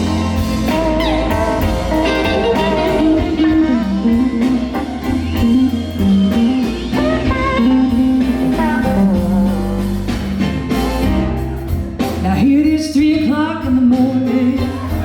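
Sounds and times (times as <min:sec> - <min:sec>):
electric guitar bending notes: 0:00.0 - 0:12.2
blues band playing: 0:00.0 - 0:15.0.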